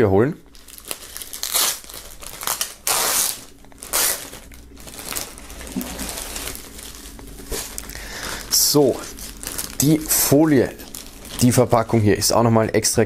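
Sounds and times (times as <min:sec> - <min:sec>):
plastic bag crinkling: 0:00.5 - 0:12.3.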